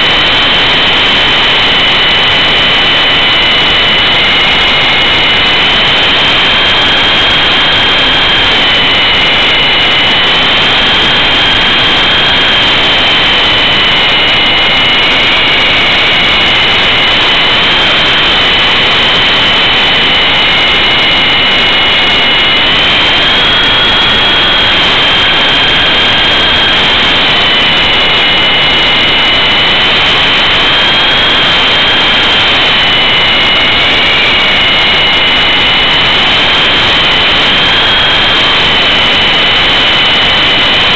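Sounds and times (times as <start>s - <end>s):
helicopter rotors whining: 0.0s - 40.9s.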